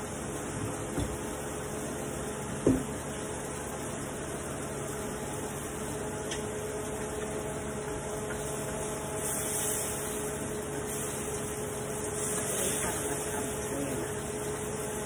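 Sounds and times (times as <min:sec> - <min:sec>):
steady background hum: 0:00.0 - 0:15.0
oil sizzling in a pan: 0:00.1 - 0:15.0.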